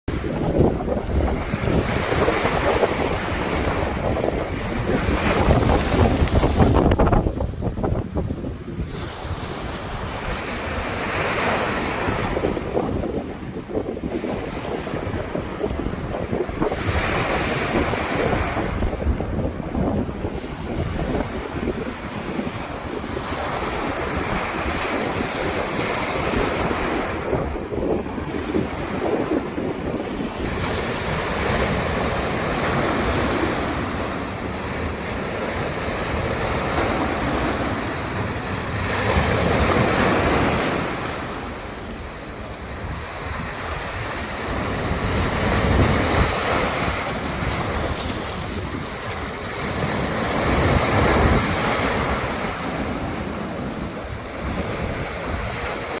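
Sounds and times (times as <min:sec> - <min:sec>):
waves breaking on shore: 0:00.1 - 0:56.0
wind buffeting microphone: 0:00.1 - 0:56.0.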